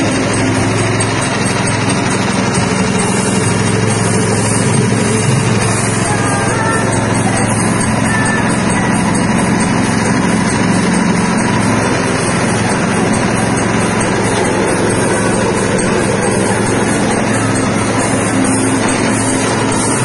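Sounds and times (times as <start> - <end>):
machine motor drone: 0.0 - 20.0.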